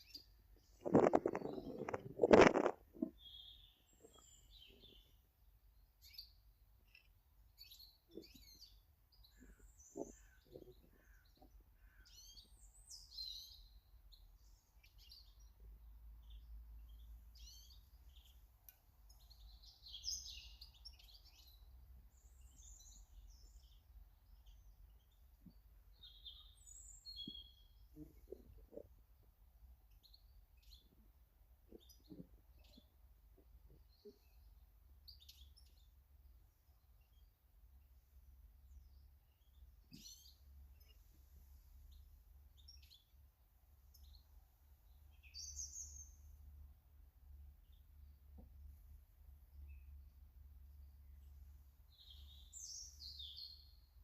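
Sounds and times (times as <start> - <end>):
garden birds chirping: 0.0 - 54.0.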